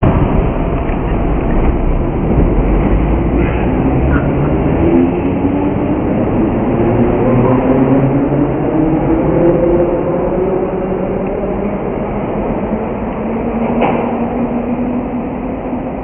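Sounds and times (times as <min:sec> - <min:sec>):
subway train rumbling past: 0:00.0 - 0:16.0.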